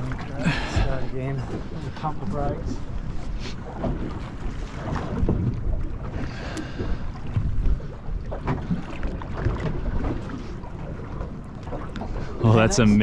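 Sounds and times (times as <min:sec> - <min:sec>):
wind buffeting microphone: 0:00.0 - 0:11.0
water washing against hull: 0:00.0 - 0:13.0.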